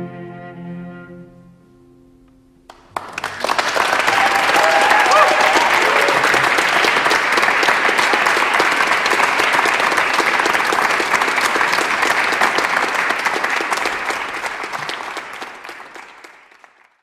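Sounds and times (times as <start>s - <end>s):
audience applauding: 2.7s - 17.0s.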